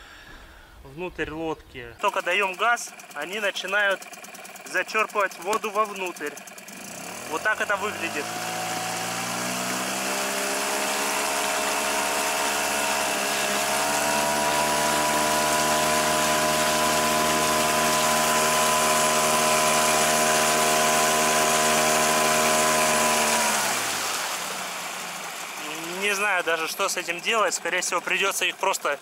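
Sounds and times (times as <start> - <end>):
outboard motor running: 2.0 - 29.0
water rushing along hull: 2.2 - 29.0.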